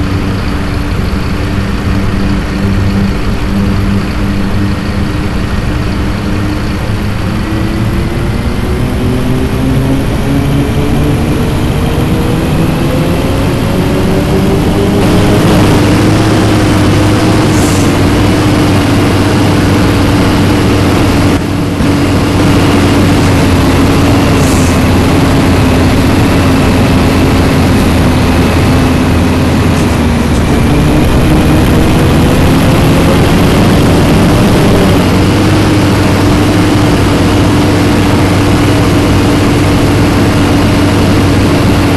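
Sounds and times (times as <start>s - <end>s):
diesel bus engine pulling: 0.0s - 41.9s.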